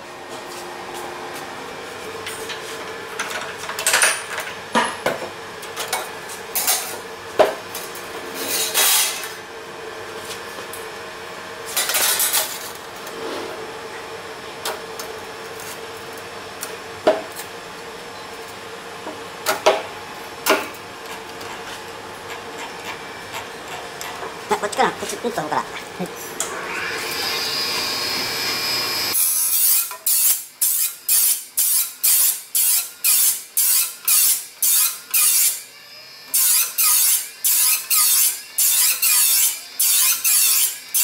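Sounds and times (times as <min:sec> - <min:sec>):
faint machine hum: 0:00.0 - 0:41.0.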